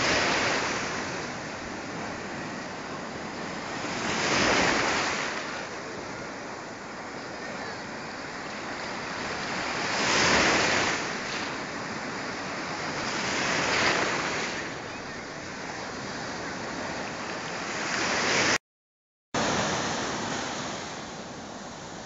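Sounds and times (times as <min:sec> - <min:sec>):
sea surf breaking: 0:00.0 - 0:18.6, 0:19.4 - 0:22.0.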